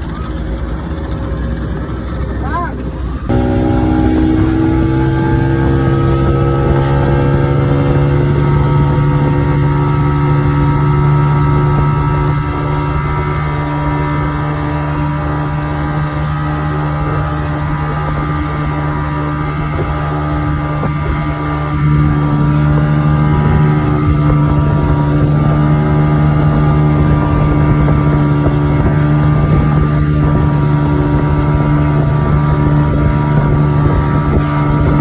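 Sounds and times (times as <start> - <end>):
motorboat engine running: 0.0 - 35.0.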